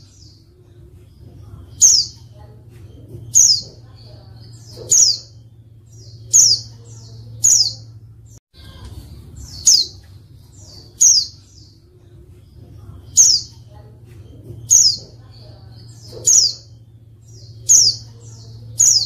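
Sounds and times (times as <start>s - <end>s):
soft bird twitters: 0.0s - 8.4s, 9.0s - 19.0s
low steady hum: 0.0s - 19.0s.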